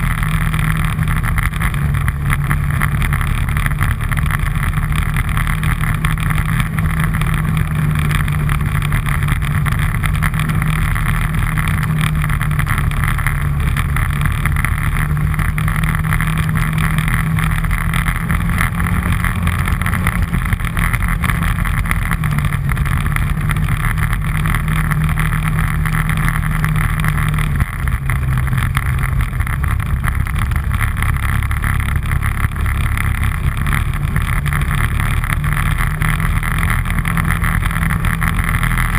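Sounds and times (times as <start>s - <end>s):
all-terrain vehicle engine running: 0.0s - 38.9s.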